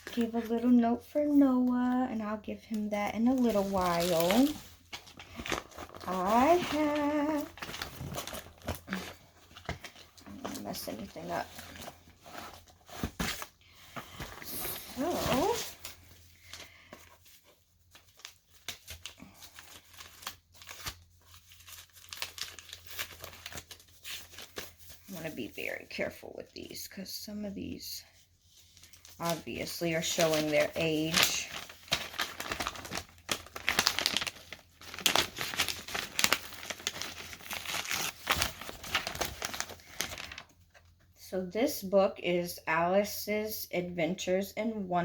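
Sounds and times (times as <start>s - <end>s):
packing material crinkling: 0.0s - 25.9s, 28.6s - 40.9s.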